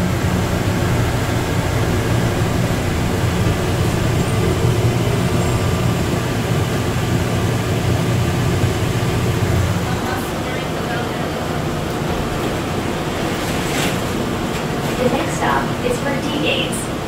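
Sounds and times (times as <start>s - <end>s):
train car rumbling in tunnel: 0.0s - 17.0s.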